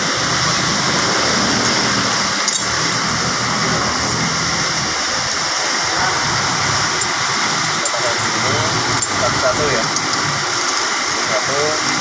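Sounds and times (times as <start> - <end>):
loud rushing hiss: 0.0 - 12.0.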